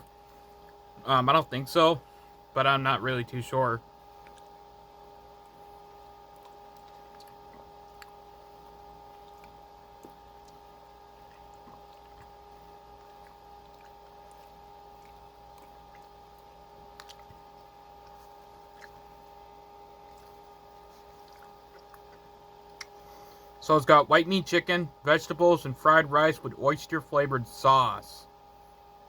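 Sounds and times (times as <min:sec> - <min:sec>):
faint two-tone hum: 0:00.0 - 0:29.0.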